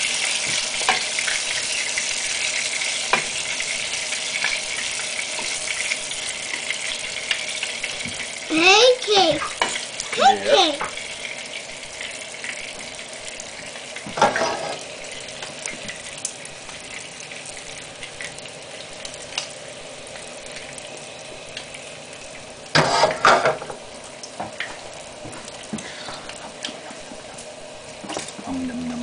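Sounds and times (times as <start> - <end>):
batter sizzling in a skillet: 0.0 - 28.5.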